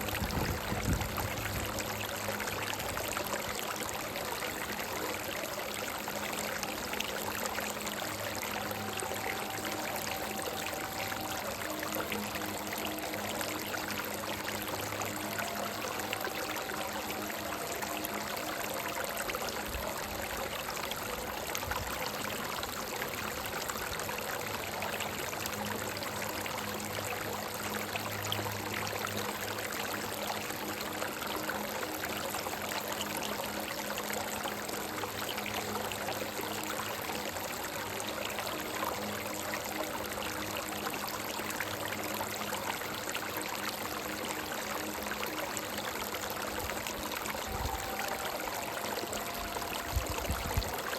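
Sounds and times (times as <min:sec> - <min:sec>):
stream running over rocks: 0:00.0 - 0:50.9.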